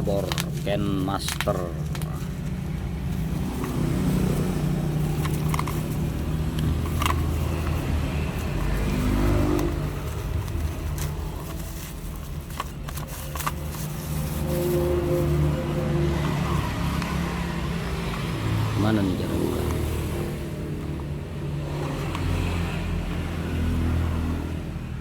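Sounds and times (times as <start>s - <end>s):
plastic packaging crackling: 0.0s - 22.7s.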